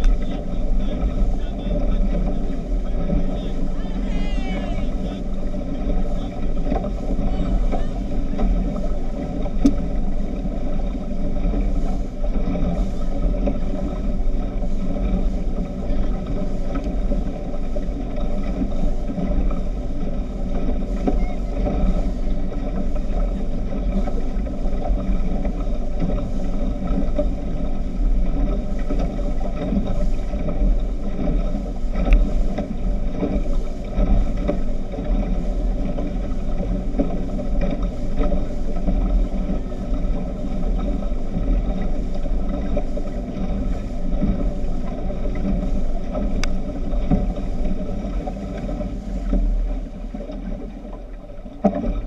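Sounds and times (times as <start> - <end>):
speedboat engine droning: 0.0 - 52.0.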